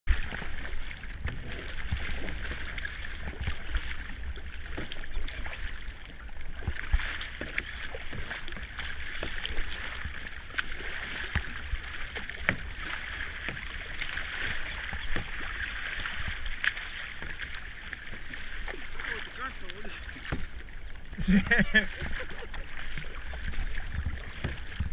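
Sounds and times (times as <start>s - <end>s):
water splashing against paddle: 0.1s - 24.9s.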